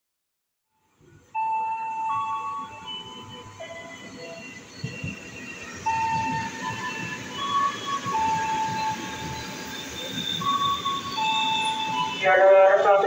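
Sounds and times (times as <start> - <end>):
high-pitched train whines: 0.9 - 13.0
train wheels rumbling on rails: 1.1 - 13.0.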